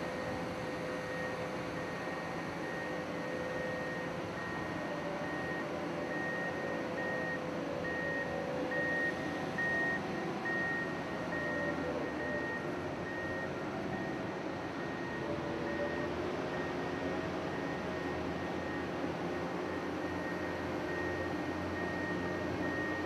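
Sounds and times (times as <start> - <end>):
vehicle warning beeper: 0.2 - 19.0, 19.6 - 23.0.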